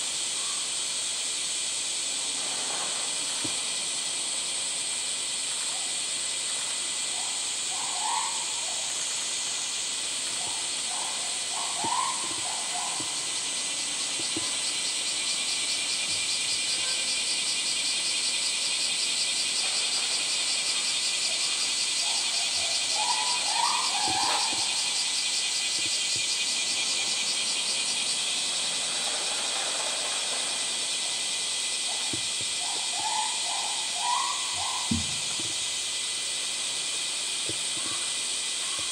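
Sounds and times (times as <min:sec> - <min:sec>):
cicadas chorus: 0:00.0 - 0:38.9.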